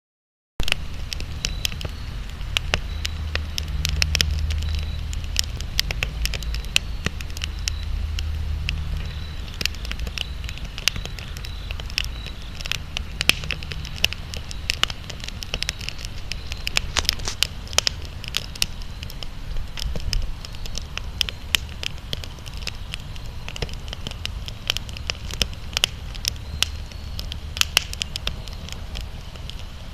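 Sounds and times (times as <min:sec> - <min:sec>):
campfire crackling and popping: 0:00.6 - 0:29.9.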